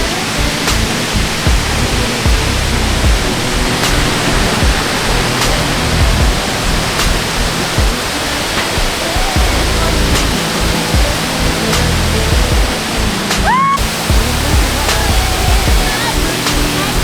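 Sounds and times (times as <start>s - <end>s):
background music with bass: 0.0s - 17.0s
waterfall roaring: 0.0s - 17.0s.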